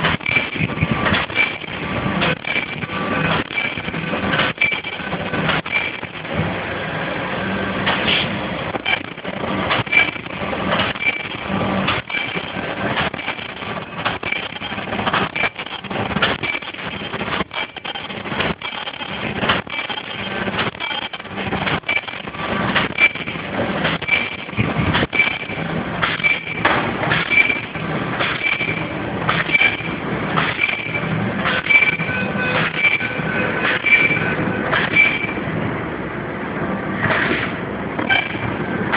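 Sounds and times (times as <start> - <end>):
machine clattering: 0.0 - 6.6, 7.8 - 35.5, 37.0 - 38.9.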